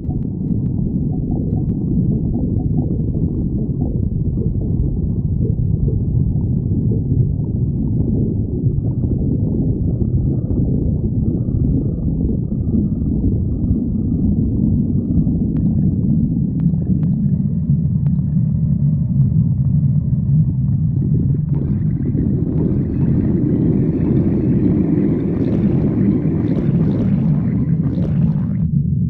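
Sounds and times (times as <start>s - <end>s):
stomach growling: 0.0s - 28.8s.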